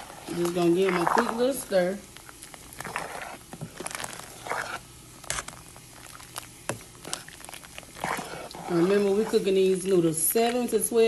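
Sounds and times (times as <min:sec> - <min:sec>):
spoon stirring pasta in boiling water: 0:00.0 - 0:11.0.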